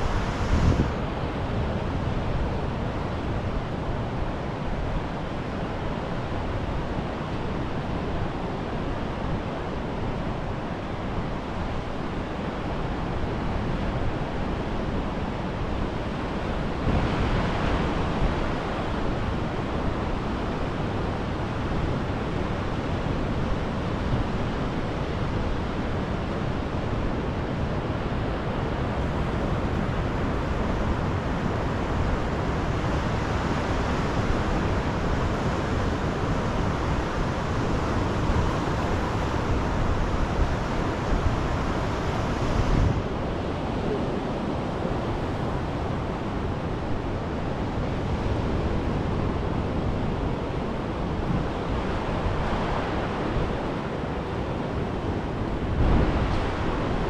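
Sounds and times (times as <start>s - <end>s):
sea surf washing on beach: 0.0s - 57.0s
wind rumbling on microphone: 0.0s - 57.0s.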